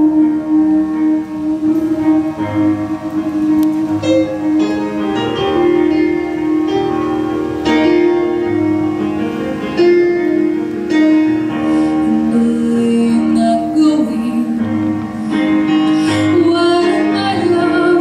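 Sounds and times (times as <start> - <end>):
keyboard chords: 0.0 - 18.0.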